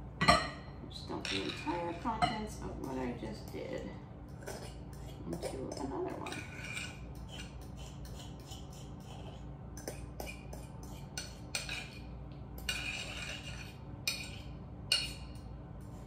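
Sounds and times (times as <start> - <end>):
utensil scraping against bowl: 1.0 - 3.6, 4.3 - 16.0.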